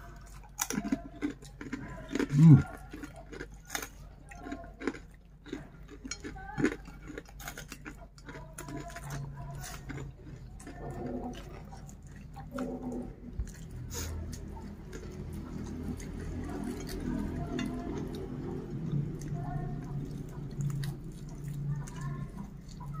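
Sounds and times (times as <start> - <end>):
crunching of fried crumbs: 0.0 - 23.0
man chewing and smacking: 0.0 - 23.0.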